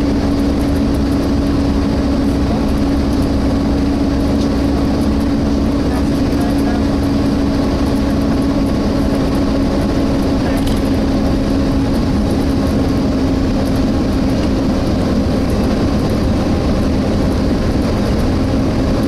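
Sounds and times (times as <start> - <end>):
cooling fan drone: 0.0 - 19.0
engine and road rumble: 0.0 - 19.0.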